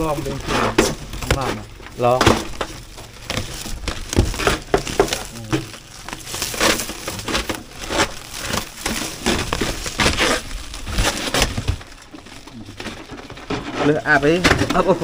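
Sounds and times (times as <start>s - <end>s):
styrofoam box crunching: 0.0s - 15.0s.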